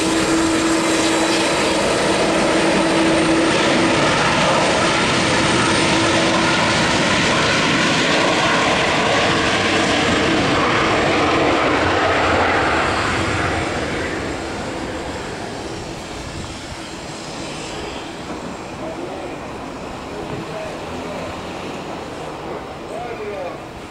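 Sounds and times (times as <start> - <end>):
jet airliner taxiing: 0.0 - 23.9.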